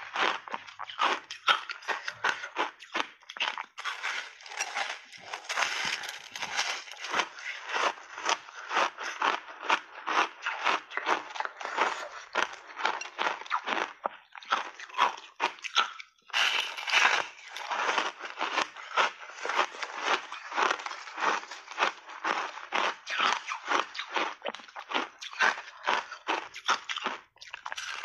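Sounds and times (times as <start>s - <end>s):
ice crunching while chewed: 0.0s - 28.0s.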